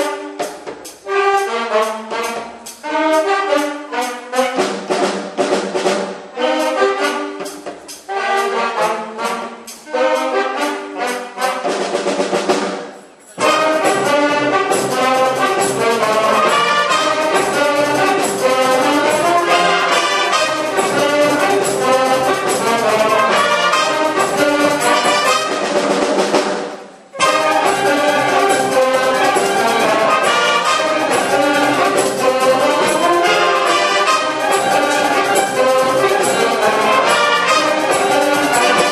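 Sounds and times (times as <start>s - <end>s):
marching band playing: 0.0s - 38.9s.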